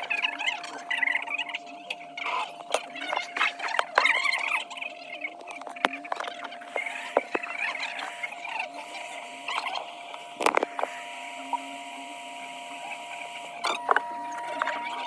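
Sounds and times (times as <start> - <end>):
high electronic whine: 0.0 - 15.0.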